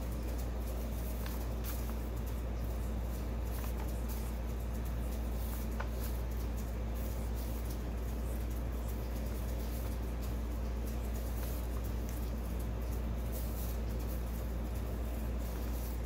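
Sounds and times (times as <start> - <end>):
steady low hum: 0.0 - 16.0
paper sheets rustling: 0.1 - 16.0.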